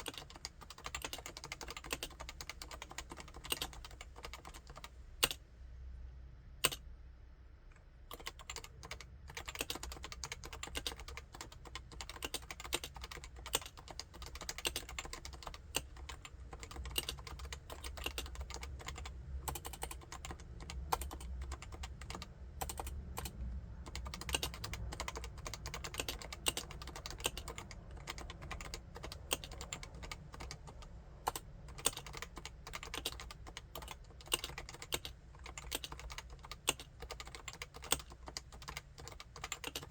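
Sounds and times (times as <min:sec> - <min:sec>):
fast keyboard typing: 0:00.0 - 0:05.4, 0:08.1 - 0:39.9.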